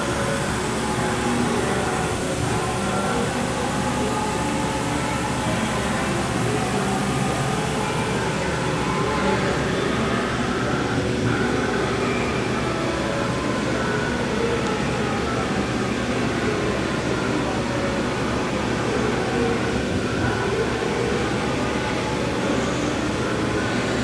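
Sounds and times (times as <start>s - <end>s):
machine humming and whining: 0.0s - 24.0s.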